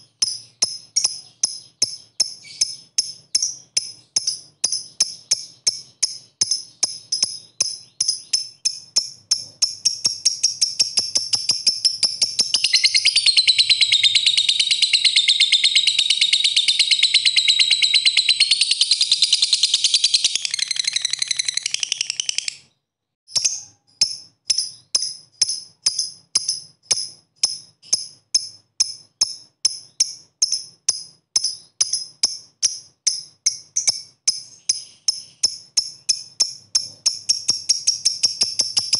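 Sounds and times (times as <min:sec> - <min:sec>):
lovebird chipping and trilling: 0:00.0 - 0:38.9.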